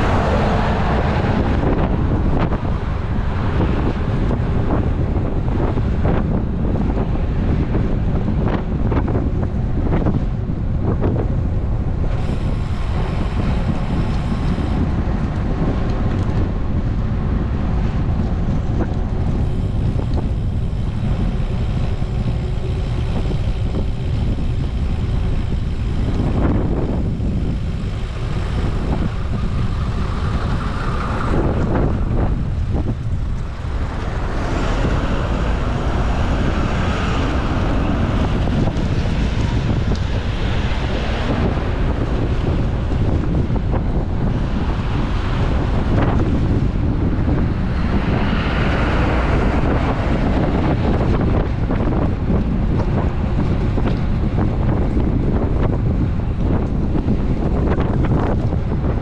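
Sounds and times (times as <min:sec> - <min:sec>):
vehicle passing: 0:00.0 - 0:04.8, 0:12.2 - 0:55.3
road traffic: 0:00.0 - 0:59.0
wind buffeting microphone: 0:00.0 - 0:59.0.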